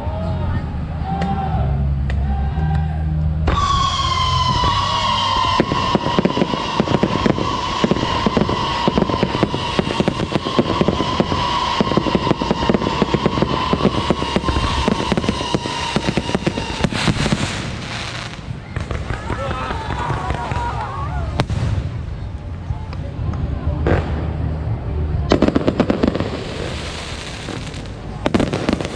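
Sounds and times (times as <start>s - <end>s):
firecrackers crackling: 3.4s - 28.9s.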